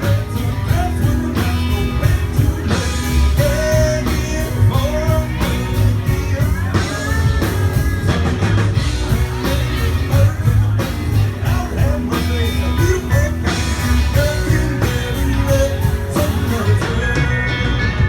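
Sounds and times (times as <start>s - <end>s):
person singing: 0.0s - 8.1s, 9.1s - 18.0s
drum beat: 0.0s - 17.2s
guitar: 0.0s - 18.0s.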